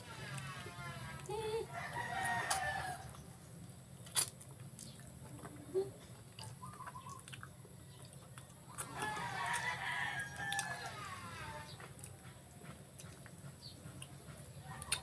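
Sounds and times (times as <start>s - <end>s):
chewing and biting: 2.0s - 11.0s, 11.8s - 15.0s.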